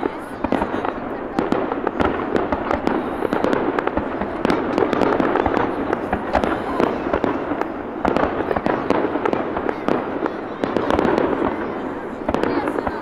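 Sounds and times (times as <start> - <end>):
fireworks pops and bangs: 0.0 - 13.0.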